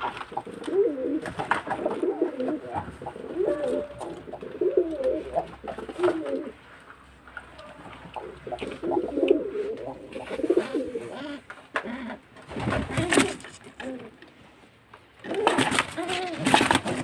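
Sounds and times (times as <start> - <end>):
pigeon cooing: 0.0 - 6.6, 7.6 - 14.2, 15.2 - 17.0.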